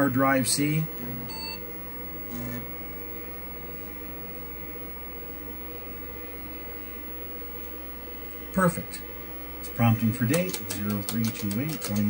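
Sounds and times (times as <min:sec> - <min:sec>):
computer fan and hard disk whine: 0:00.0 - 0:12.0.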